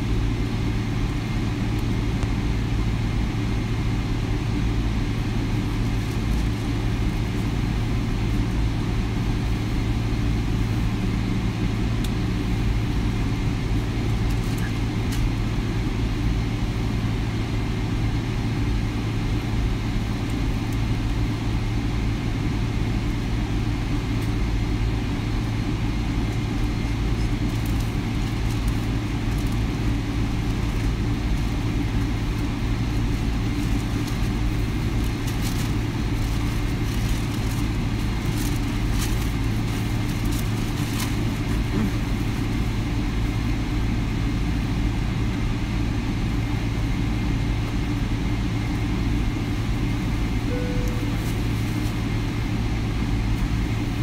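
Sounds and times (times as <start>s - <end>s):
airplane cabin engine noise: 0.0s - 54.0s.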